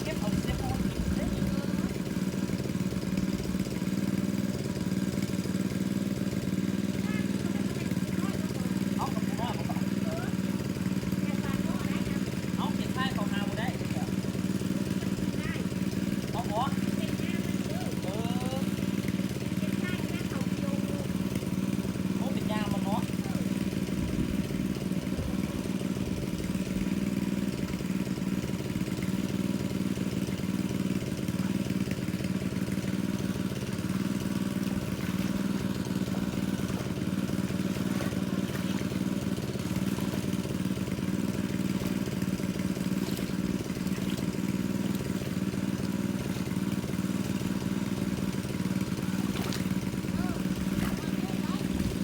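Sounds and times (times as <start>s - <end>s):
water pump engine running: 0.0s - 52.0s.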